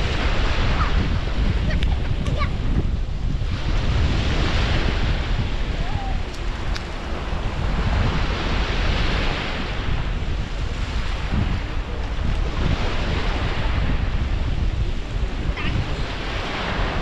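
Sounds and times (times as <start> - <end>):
small waves breaking on shore: 0.0 - 17.0
wind rumble on microphone: 0.0 - 17.0.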